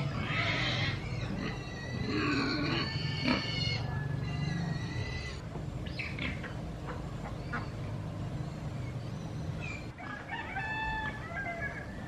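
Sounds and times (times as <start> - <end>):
farm animal calls: 0.0 - 12.0.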